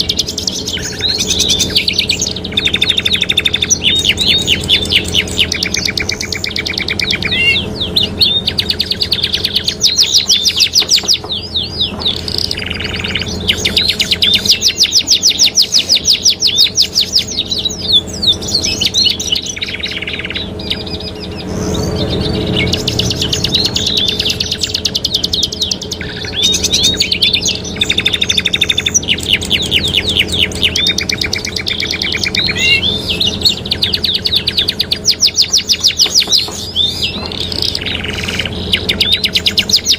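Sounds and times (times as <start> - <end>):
canaries singing trills: 0.0 - 39.9
steady low hum: 0.0 - 39.9.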